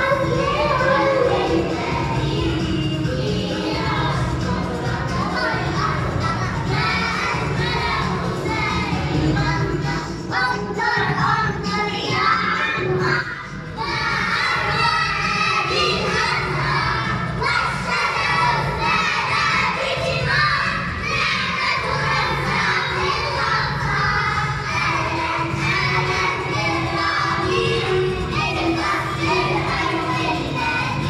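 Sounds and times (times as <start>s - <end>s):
children shout-singing together: 0.0s - 31.0s.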